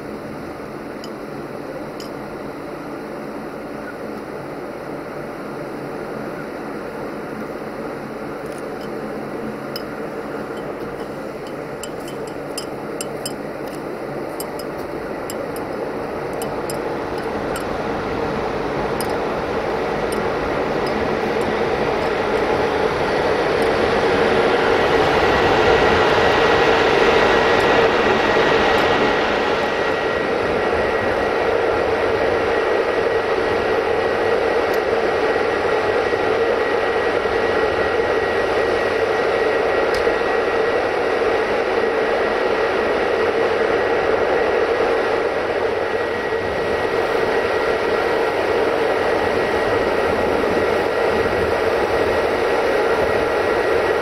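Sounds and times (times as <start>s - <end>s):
train running with hum: 0.0s - 54.0s.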